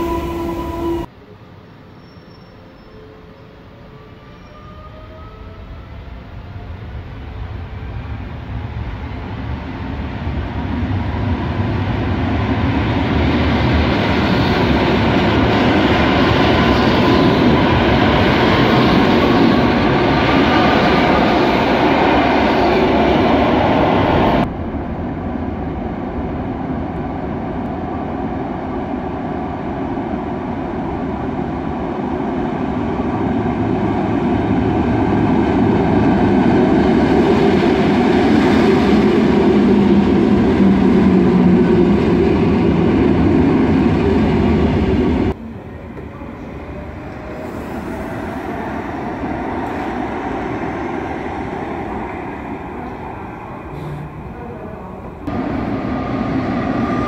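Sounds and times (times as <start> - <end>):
low steady train hum: 0.0 - 57.0
train approaching from tunnel: 0.0 - 57.0
train running past: 0.0 - 57.0.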